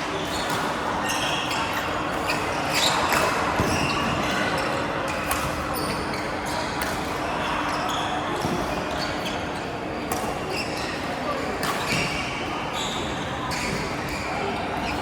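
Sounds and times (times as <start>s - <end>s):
shoes squeaking on court floor: 0.0s - 15.0s.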